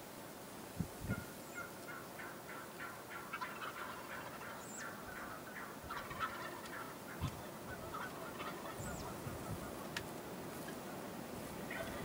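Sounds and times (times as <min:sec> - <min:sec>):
distant turkeys gobbling: 0:01.1 - 0:12.0.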